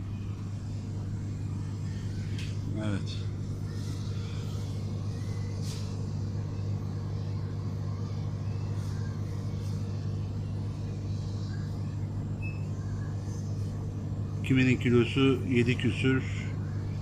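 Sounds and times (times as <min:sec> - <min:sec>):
cooling equipment hum: 0:00.0 - 0:17.0.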